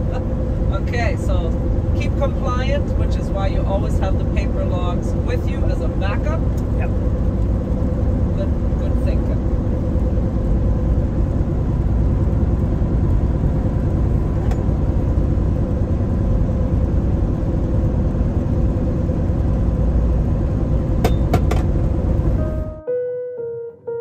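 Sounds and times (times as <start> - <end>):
truck engine and tyres droning: 0.0 - 22.8.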